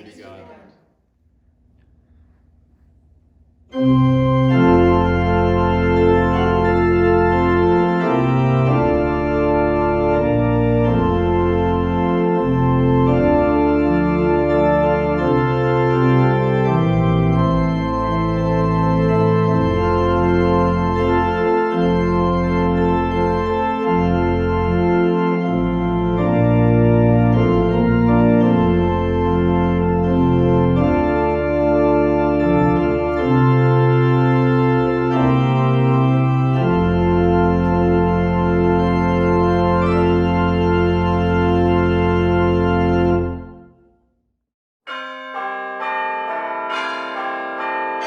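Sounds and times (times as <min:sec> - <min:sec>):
organ playing sustained chords: 0:03.7 - 0:43.8, 0:44.9 - 0:48.0.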